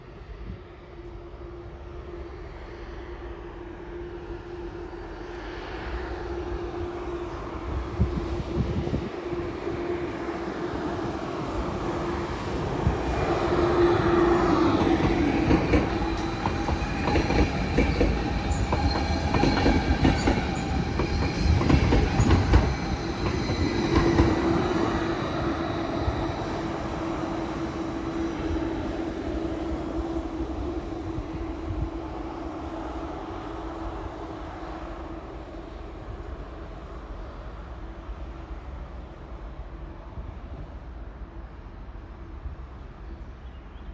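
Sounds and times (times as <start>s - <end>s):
train passing with hum: 0.0s - 43.9s.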